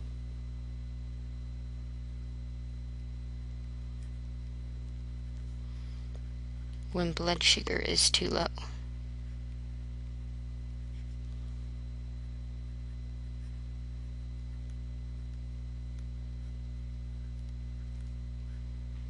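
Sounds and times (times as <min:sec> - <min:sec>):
low electrical mains hum: 0:00.0 - 0:19.0.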